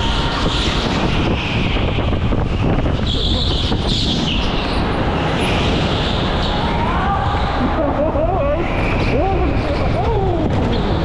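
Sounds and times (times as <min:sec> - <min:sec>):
go-kart engine rumble: 0:00.0 - 0:11.0.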